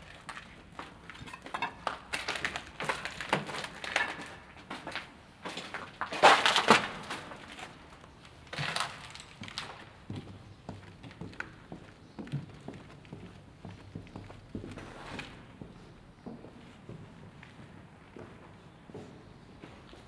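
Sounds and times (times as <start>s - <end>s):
footsteps crunching on rubble: 0.0s - 20.0s.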